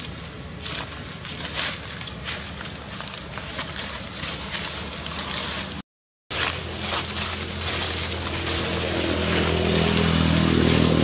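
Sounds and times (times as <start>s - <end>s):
dry leaves crackling: 0.0s - 11.0s
wind rumble on microphone: 0.0s - 11.0s.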